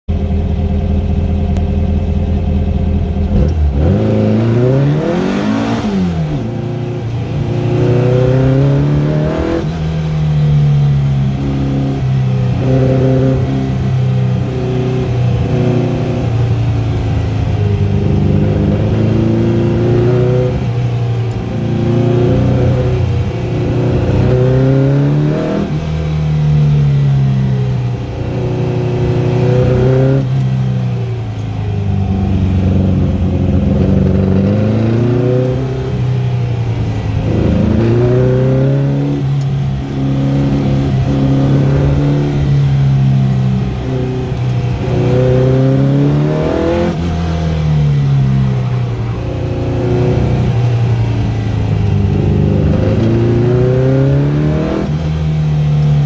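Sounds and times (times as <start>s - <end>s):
car engine revving: 0.1s - 56.0s.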